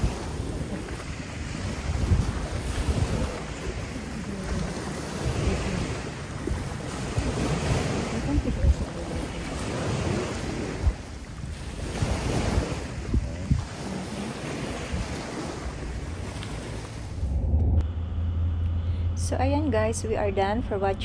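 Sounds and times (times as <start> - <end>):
small waves washing on shore: 0.0 - 17.4
wind buffeting microphone: 0.0 - 17.8.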